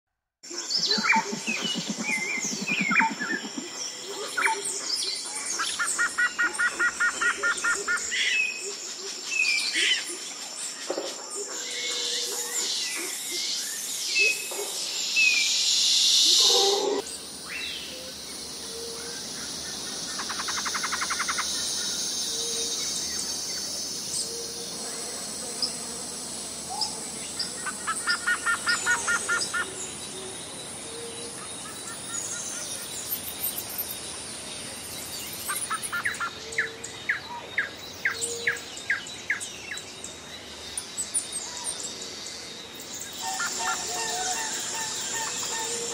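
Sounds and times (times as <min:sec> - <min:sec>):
high insect drone: 0:00.5 - 0:10.8, 0:15.0 - 0:45.9
birds chirping and calling: 0:00.6 - 0:10.2, 0:16.2 - 0:45.9.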